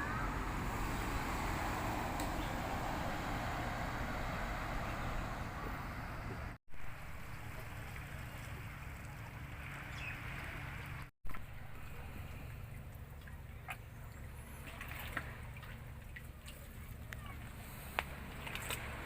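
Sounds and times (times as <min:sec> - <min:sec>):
sea waves: 0:00.0 - 0:19.0
wind: 0:00.0 - 0:19.0.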